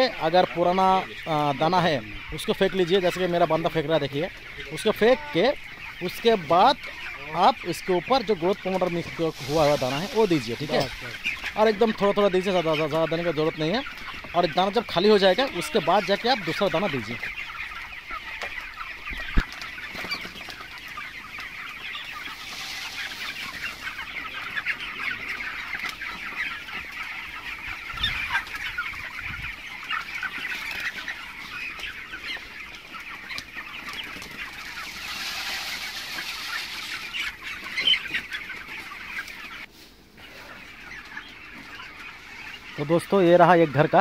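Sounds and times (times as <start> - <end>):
chickens clucking and peeping: 0.0 - 44.0.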